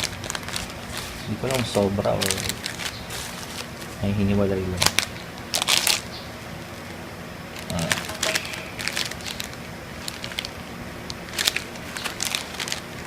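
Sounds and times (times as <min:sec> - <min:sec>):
packaging rustling: 0:00.0 - 0:06.2, 0:07.5 - 0:13.0.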